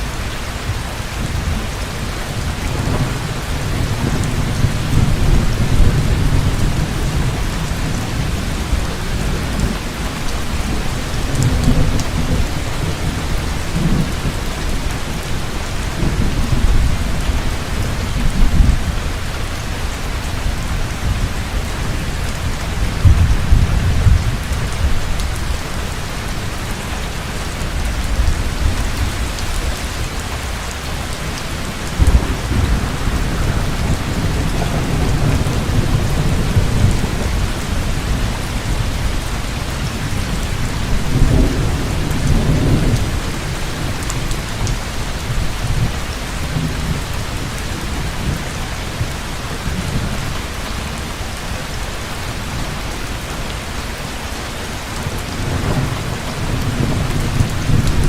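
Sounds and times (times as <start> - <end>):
heavy rain falling: 0.0 - 58.0
thunder rumbling: 0.7 - 51.2, 55.0 - 58.0.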